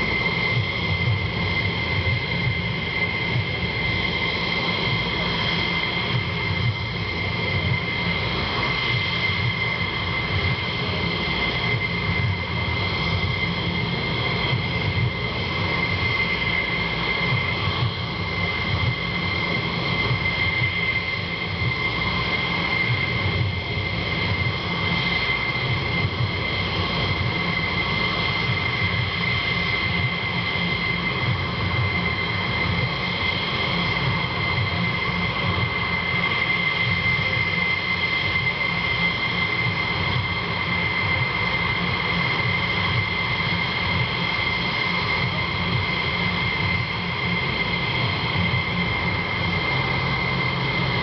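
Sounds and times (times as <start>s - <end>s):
jet engines idling: 0.0s - 51.0s.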